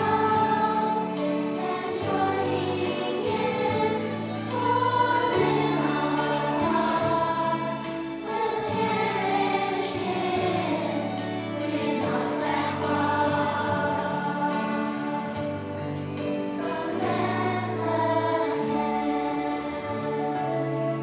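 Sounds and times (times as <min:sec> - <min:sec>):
choir singing: 0:00.0 - 0:21.0
instrumental accompaniment: 0:00.0 - 0:21.0.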